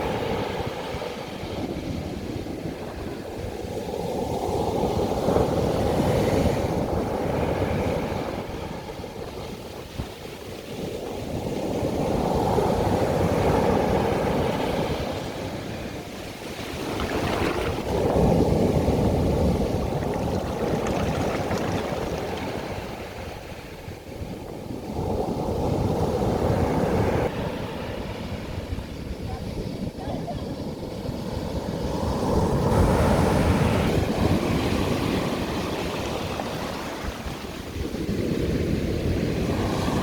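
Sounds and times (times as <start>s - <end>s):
waves breaking on a beach: 0.0s - 40.0s.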